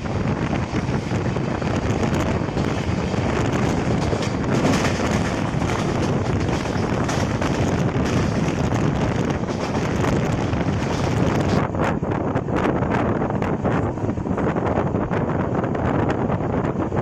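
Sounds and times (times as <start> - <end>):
train running noise: 0.0 - 17.0
wind rushing over microphone: 0.0 - 17.0.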